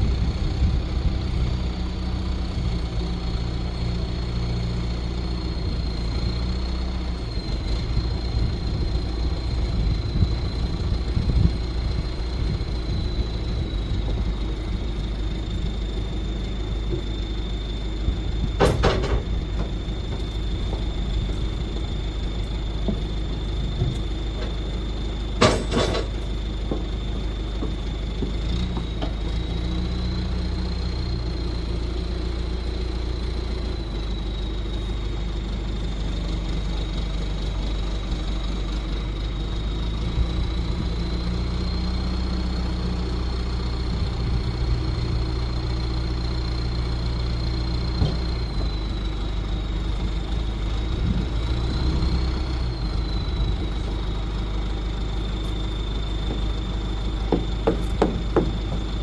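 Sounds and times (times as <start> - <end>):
constant high whine: 0.0 - 59.0
vehicle engine running: 0.0 - 59.0.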